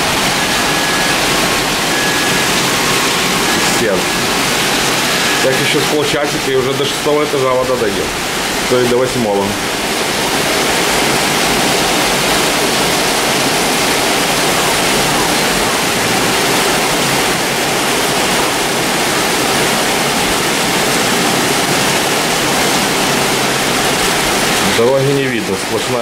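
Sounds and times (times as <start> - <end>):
torrential rain pouring: 0.0 - 26.0.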